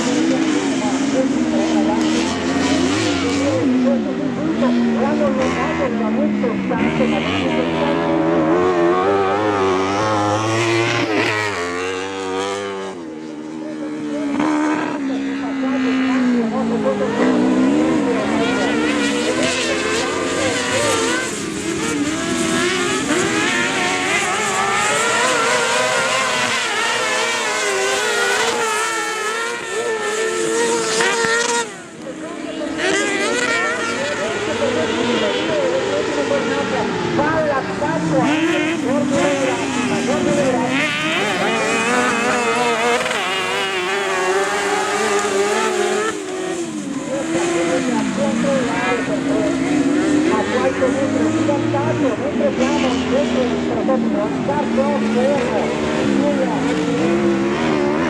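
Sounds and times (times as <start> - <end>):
buggy engines racing: 0.0 - 58.0.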